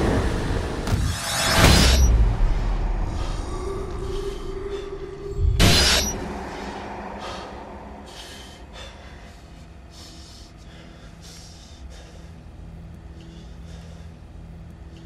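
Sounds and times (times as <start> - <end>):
low steady hum: 0.0 - 15.0
man breathing heavily: 2.2 - 15.0.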